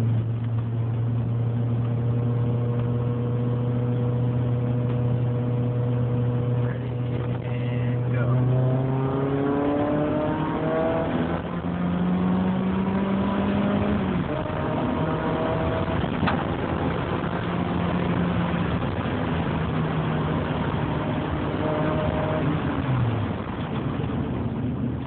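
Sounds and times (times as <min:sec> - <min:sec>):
car engine revving: 0:00.0 - 0:25.0
road noise: 0:00.0 - 0:25.0.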